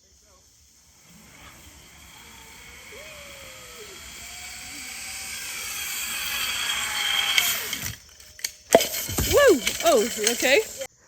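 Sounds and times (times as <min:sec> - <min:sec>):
zip line pulley whirring on cable: 0:00.7 - 0:10.9.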